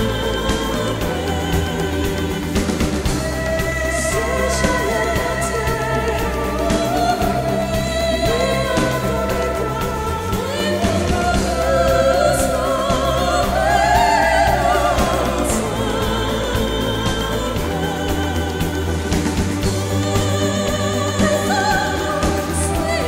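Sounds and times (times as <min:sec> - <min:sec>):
person singing long wavering notes: 0:00.0 - 0:23.0
steady musical accompaniment: 0:00.0 - 0:23.0.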